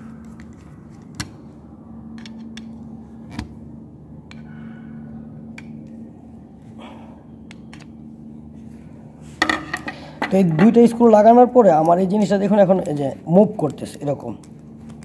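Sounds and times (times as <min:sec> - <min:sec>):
low hum: 0:00.0 - 0:13.3.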